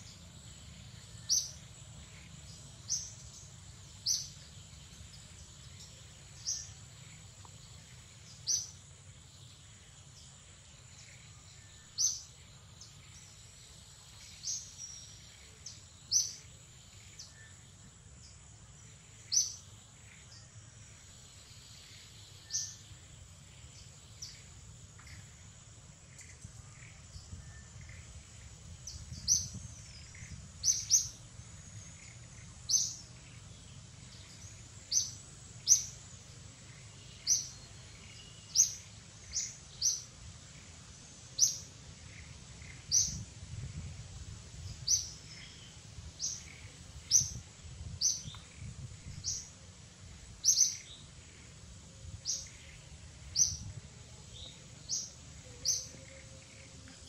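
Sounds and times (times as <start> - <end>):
bird chirping: 0.0 - 25.4, 26.1 - 43.9, 50.2 - 57.0.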